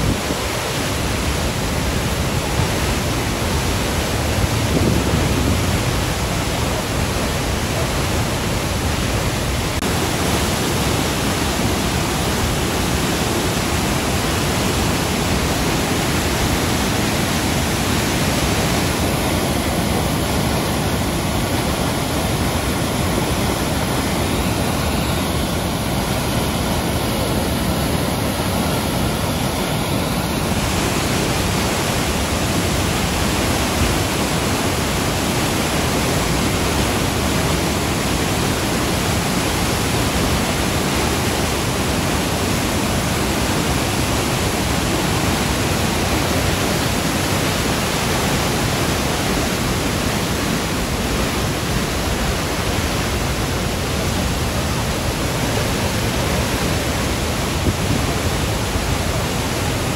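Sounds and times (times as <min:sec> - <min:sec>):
floodwater rushing over rock: 0:00.0 - 0:59.9.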